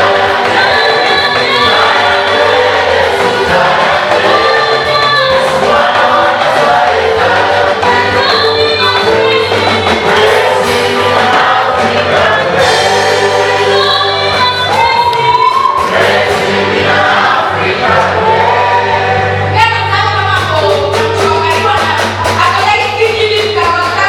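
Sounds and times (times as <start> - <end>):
choir singing gospel: 0.0 - 22.8
band accompaniment: 0.0 - 24.0
bass line: 0.0 - 24.0.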